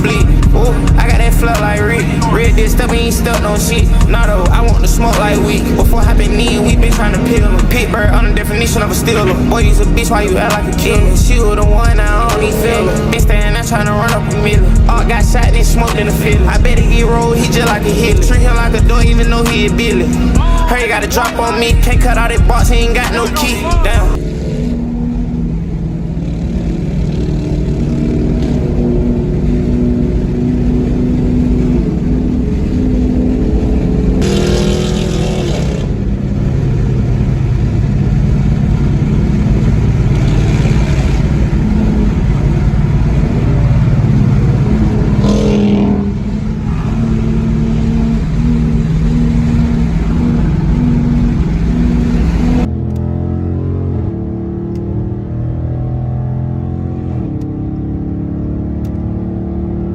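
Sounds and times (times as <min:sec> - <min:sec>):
car engines revving: 0:00.0 - 0:59.9
cars passing: 0:00.0 - 0:59.9.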